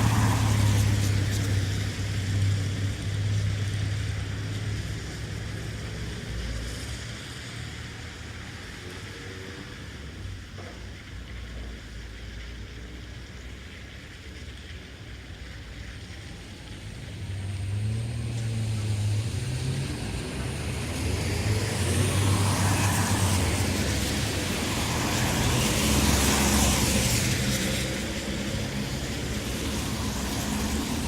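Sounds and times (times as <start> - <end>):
tyres hissing on wet road: 0.0 - 31.0
vehicle engine hum: 0.0 - 31.0.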